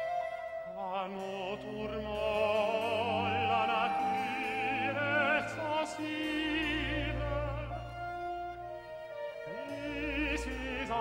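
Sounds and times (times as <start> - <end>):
operatic singing with vibrato: 0.0 - 11.0
orchestral accompaniment: 0.0 - 11.0.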